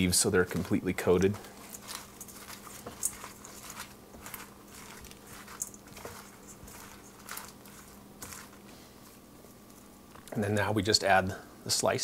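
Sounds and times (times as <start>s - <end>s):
wet rustling of leaves in bowl: 0.0s - 10.6s.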